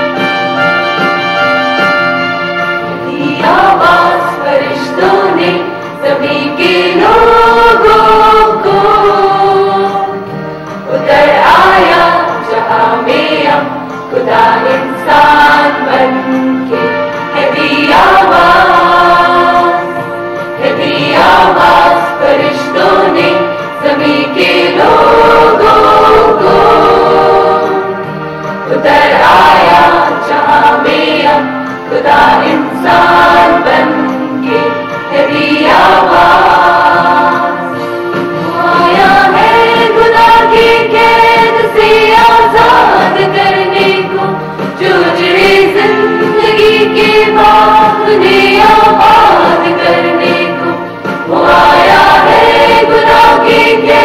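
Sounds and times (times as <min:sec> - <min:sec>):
mixed choir singing a carol: 0:00.0 - 0:54.0.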